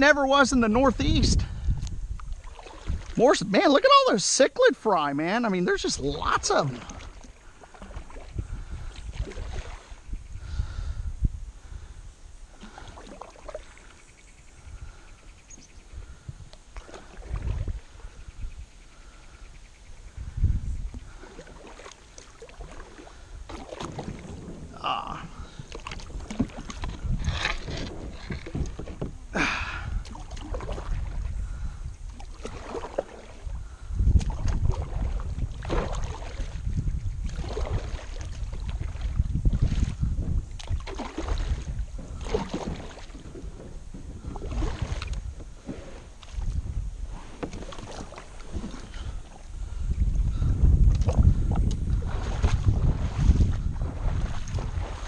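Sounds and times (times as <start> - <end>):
wind rumble on microphone: 0.0 - 3.5, 5.7 - 55.0
paddle splashing in water: 2.2 - 4.0, 5.3 - 10.9, 12.5 - 15.2, 16.0 - 18.3, 20.8 - 55.0.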